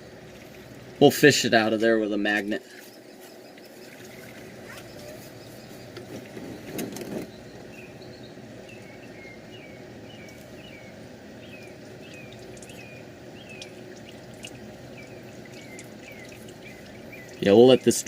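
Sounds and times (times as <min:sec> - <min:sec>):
bird chirping: 0:02.6 - 0:18.0.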